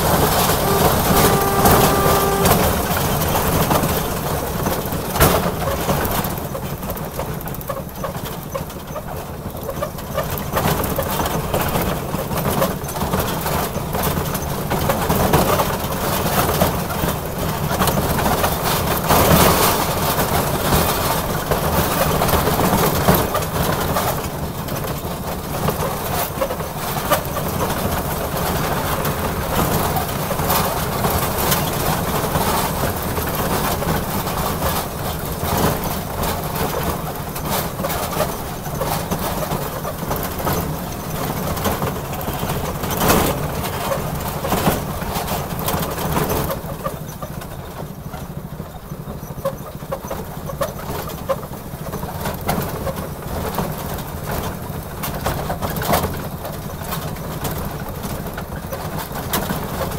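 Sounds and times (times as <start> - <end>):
locomotive running: 0.0 - 59.9
wheels clicking and knocking: 0.0 - 59.9.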